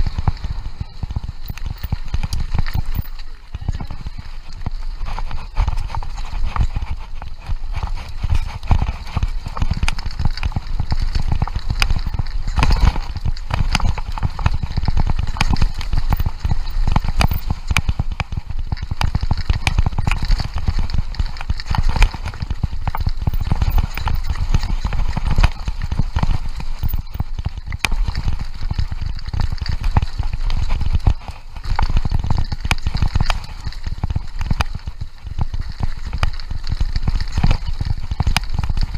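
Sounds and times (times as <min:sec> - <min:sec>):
bike rattling over bumps: 0:00.0 - 0:38.9
tyres crunching on gravel: 0:00.0 - 0:38.9.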